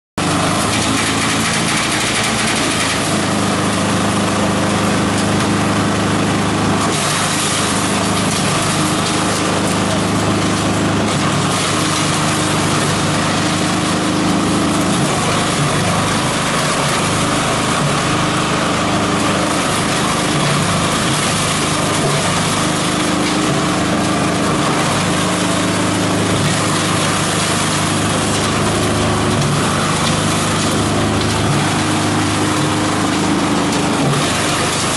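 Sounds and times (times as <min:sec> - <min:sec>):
shredder machine shredding plants: 0:00.2 - 0:34.9.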